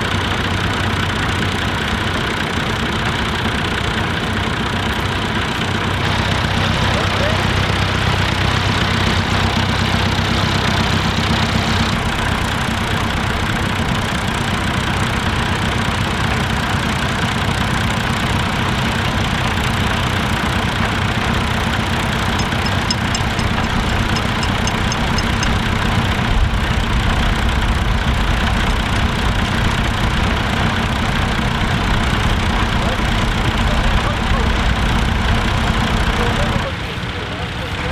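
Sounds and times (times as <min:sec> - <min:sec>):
tractor engines running under load: 0:00.0 - 0:37.9.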